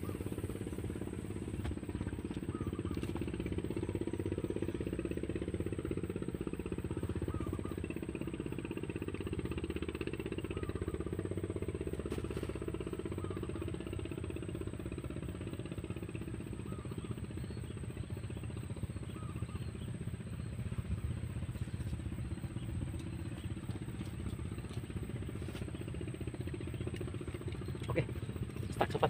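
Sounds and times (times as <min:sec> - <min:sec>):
small engine chugging: 0:00.0 - 0:29.0.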